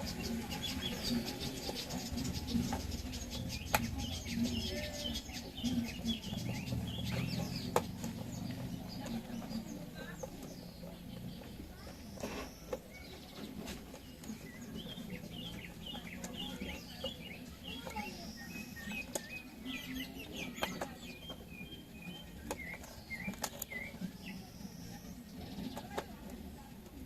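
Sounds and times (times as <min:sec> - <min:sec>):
bird chirping: 0:00.0 - 0:26.2.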